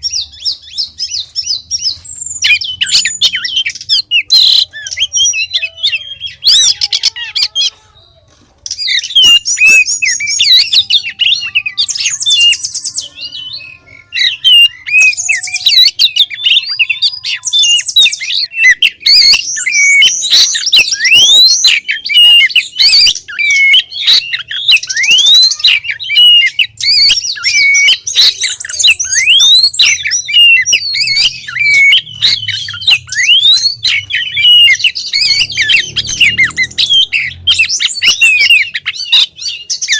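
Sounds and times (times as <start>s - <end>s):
bird whistles and chirps: 0.0s - 7.8s, 8.7s - 39.9s
bird harsh rasping notes: 0.0s - 39.9s.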